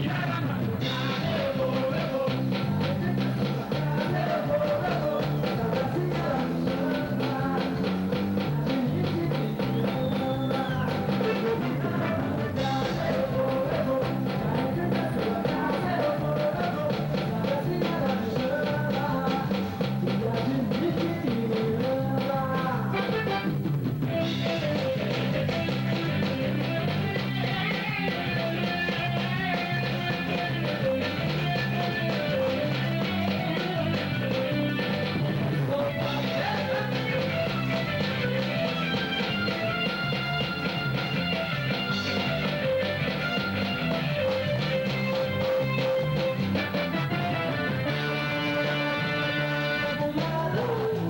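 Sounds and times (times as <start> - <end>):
band playing upbeat song: 0.0 - 51.0
bass guitar: 0.0 - 51.0
drum kit: 0.0 - 51.0
electric guitar: 0.0 - 51.0.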